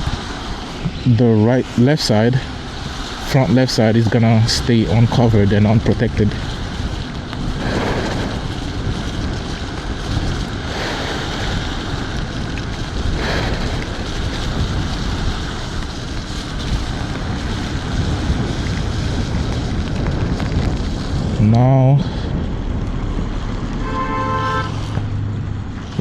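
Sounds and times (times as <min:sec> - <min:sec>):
tyres hissing on wet road: 0:00.0 - 0:26.0
wind rushing over microphone: 0:00.0 - 0:26.0.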